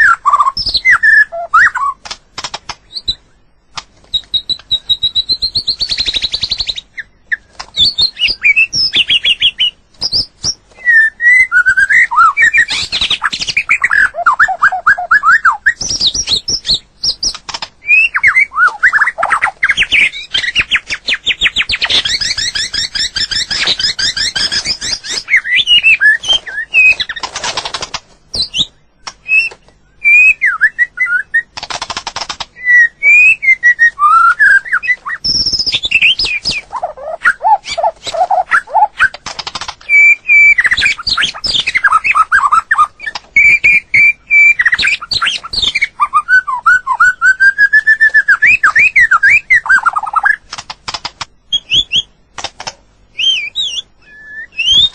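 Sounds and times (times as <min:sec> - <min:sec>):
songbird singing: 0:00.0 - 0:27.3, 0:28.2 - 0:31.6, 0:32.2 - 0:50.5, 0:51.4 - 0:52.2, 0:53.0 - 0:54.9.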